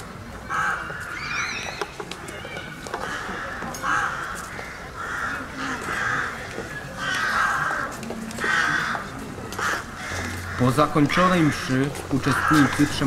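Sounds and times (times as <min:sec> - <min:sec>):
crows cawing: 0:00.4 - 0:01.8, 0:02.9 - 0:13.0.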